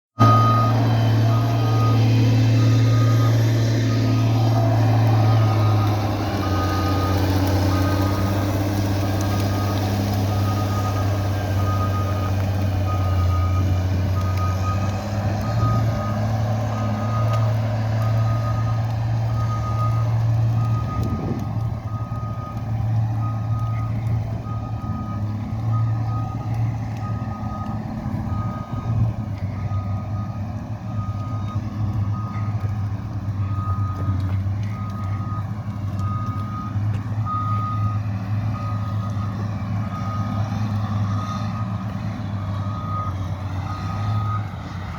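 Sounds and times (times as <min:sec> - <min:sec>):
heavy machine engine running: 0:00.2 - 0:44.9
reversing alarm beeping: 0:00.2 - 0:44.9.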